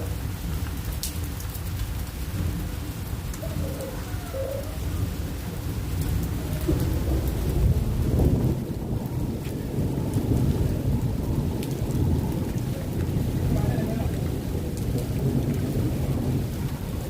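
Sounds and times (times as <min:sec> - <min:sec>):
rain falling: 0:00.0 - 0:17.0
thunder rumbling: 0:02.2 - 0:17.0.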